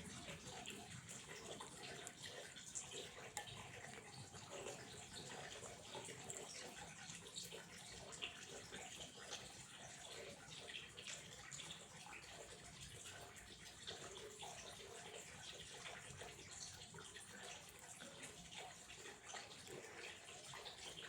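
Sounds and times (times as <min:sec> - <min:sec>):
small splashes and drips: 0:00.0 - 0:21.0
water trickling: 0:00.0 - 0:21.0.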